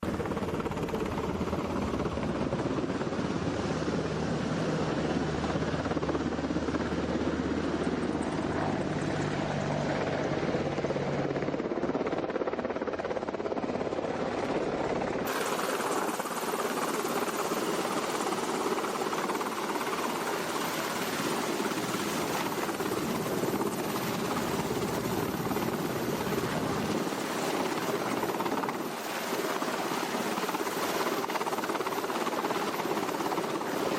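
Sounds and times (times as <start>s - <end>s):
helicopter rotor and engine: 0.0s - 33.9s.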